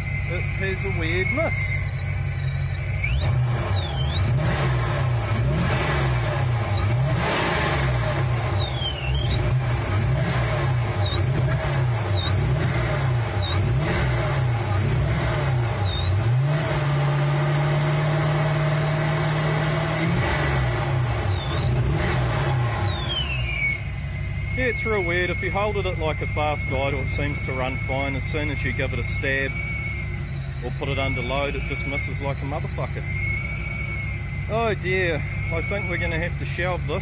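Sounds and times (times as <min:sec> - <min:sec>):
engine revving: 0:00.0 - 0:37.0
supercharger whine: 0:00.0 - 0:37.0.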